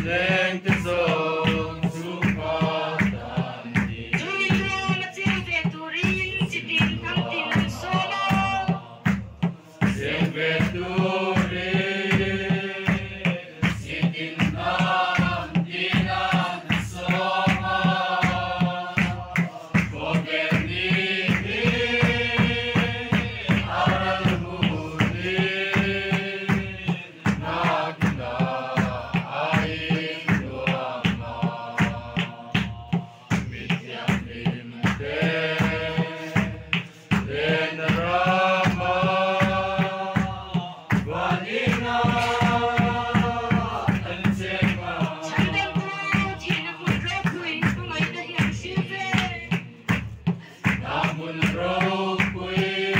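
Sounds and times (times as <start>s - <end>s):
crowd singing: 0.0s - 52.9s
drum beat: 0.0s - 52.9s.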